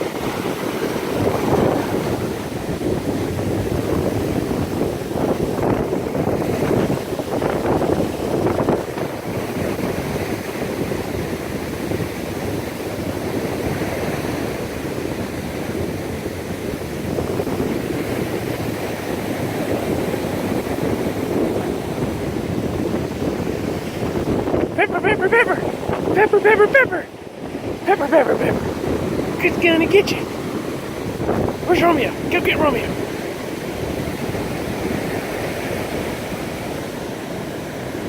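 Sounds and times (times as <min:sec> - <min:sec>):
ocean surf: 0:00.0 - 0:38.0
wind on microphone: 0:00.0 - 0:38.0.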